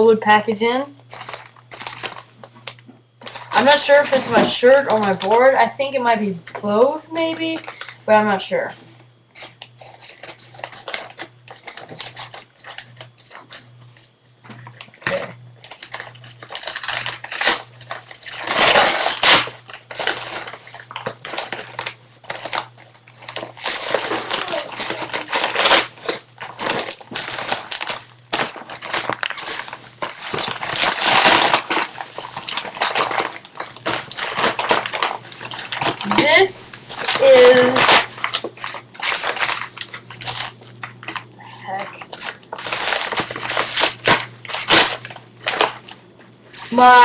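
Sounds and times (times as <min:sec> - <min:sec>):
plastic packaging crinkling: 0:01.0 - 0:08.2, 0:09.3 - 0:47.0.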